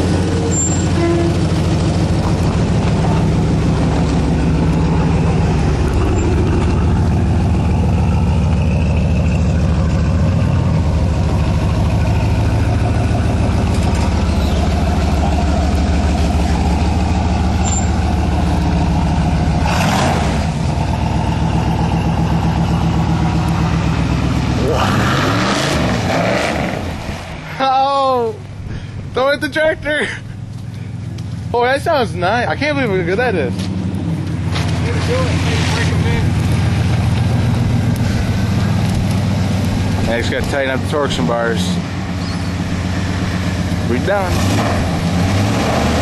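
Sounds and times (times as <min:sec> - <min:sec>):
pickup engine running: 0:00.0 - 0:46.0.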